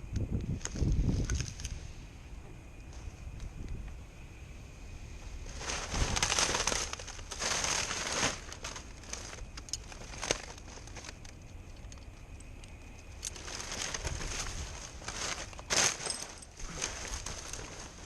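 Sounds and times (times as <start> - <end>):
dry palm fronds rustling: 0.5 - 2.0, 2.7 - 18.0.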